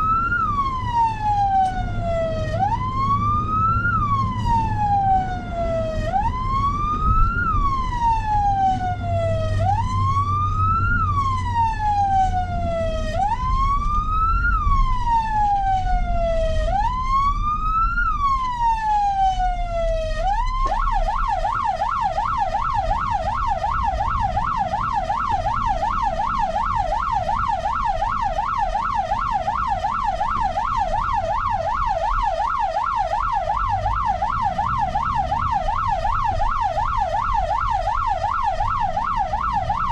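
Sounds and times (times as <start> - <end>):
electronic siren wailing and yelping: 0.0 - 39.9
low vehicle rumble: 0.0 - 39.9.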